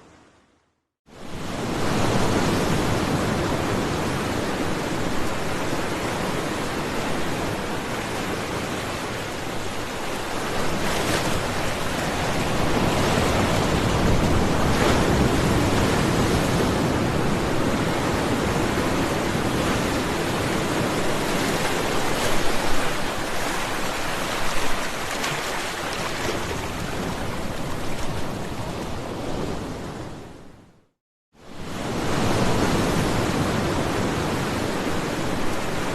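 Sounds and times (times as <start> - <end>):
waves breaking: 1.2 - 30.5, 31.5 - 35.9.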